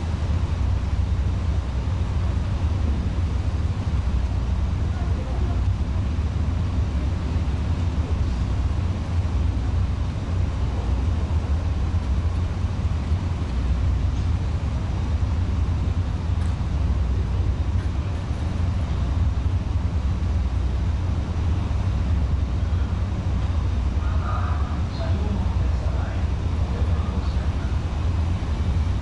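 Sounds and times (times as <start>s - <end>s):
ship engines droning: 0.0s - 29.0s
wind and water hiss: 0.0s - 29.0s.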